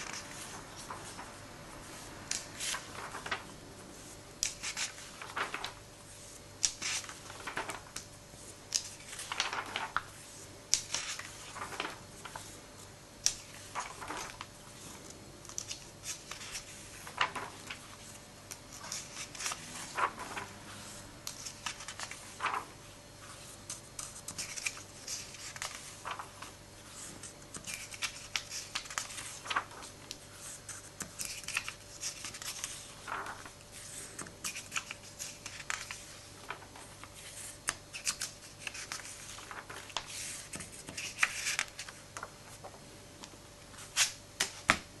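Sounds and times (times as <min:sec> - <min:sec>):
comic book pages rustling: 0:00.0 - 0:44.8
faint steady hum: 0:00.0 - 0:45.0.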